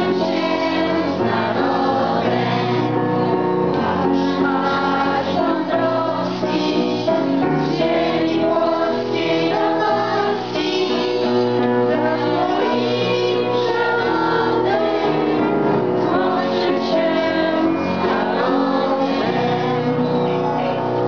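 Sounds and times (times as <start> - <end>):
children singing together: 0.0 - 20.8.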